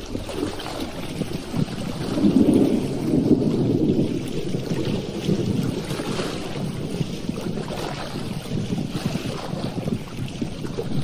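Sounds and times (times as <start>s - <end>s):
small waves lapping: 0.0s - 11.0s
wind buffeting microphone: 0.0s - 11.0s.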